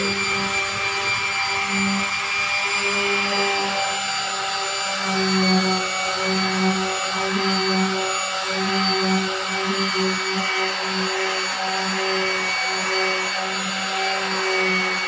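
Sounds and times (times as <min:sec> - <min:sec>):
electric orbital sander running: 0:00.0 - 0:15.0.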